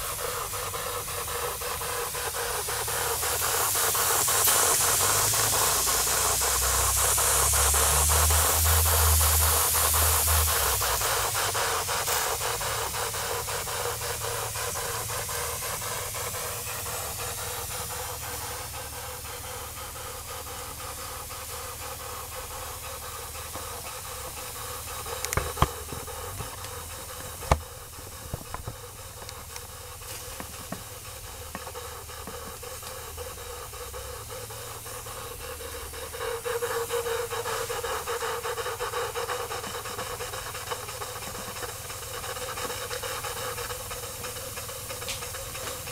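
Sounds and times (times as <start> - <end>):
steam engine beating: 0.0 - 45.9
steam hissing: 0.0 - 45.9.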